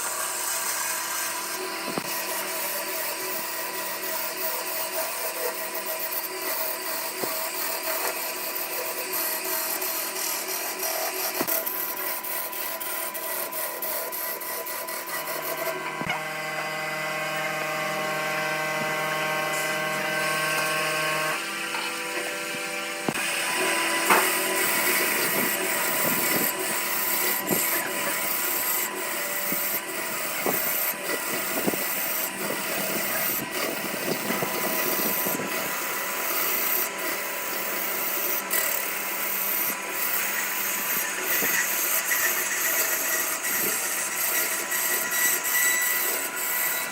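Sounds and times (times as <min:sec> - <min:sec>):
power tool motor humming: 0:00.0 - 0:46.9
tool scraping on wood: 0:00.0 - 0:46.9.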